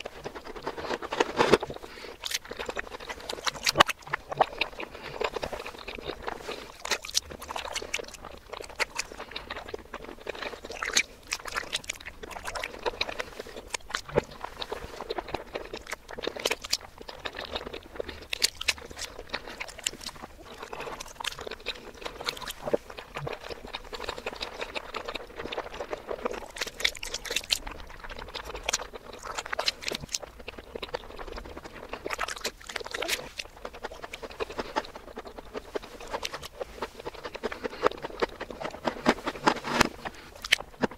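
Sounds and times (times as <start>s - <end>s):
reversed eating sounds: 0.0s - 40.9s.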